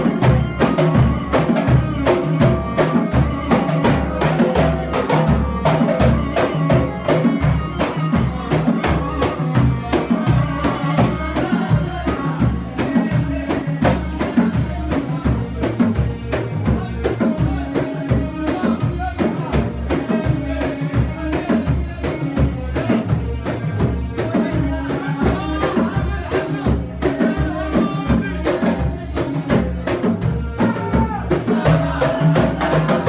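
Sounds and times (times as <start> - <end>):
frame drums beating: 0.0 - 33.0
group singing: 0.0 - 33.0.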